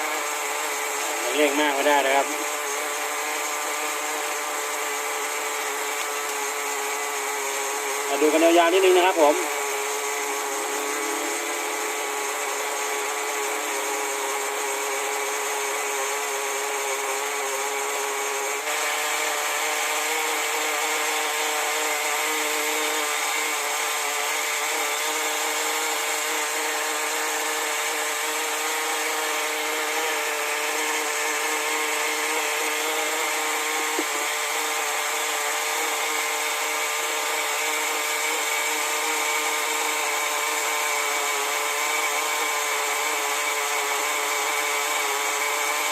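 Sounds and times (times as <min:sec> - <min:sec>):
small nitro engine running: 0:00.0 - 0:45.9.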